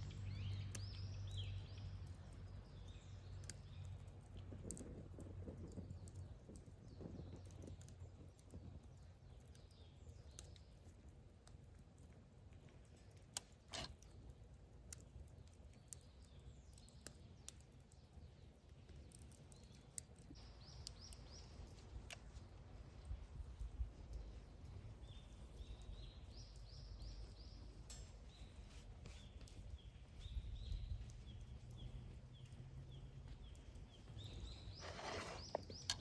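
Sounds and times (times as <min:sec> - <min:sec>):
faint outdoor ambience: 0:00.0 - 0:36.0.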